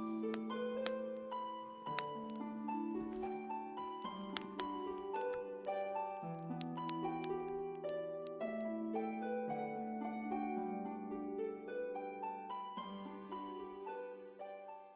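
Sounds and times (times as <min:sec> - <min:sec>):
plucked harp melody: 0:00.0 - 0:14.9.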